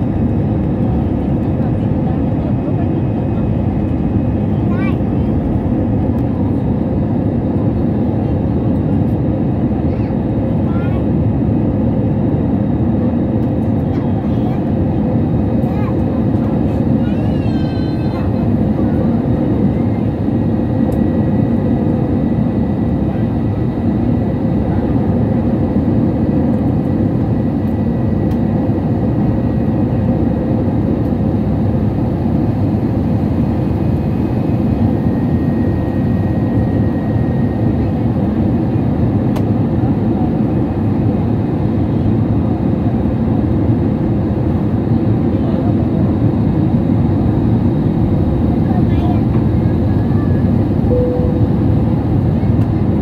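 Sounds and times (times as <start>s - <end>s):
jet engines droning in cabin: 0.0s - 53.0s.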